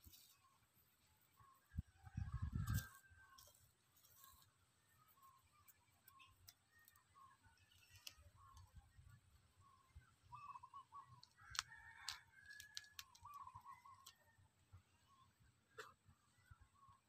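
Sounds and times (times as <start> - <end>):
faint chicken calls: 1.3 - 8.8, 9.6 - 17.0.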